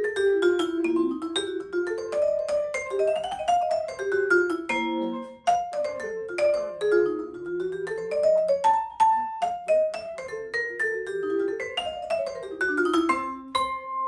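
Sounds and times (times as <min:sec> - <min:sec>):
vibraphone melody: 0:00.0 - 0:14.0.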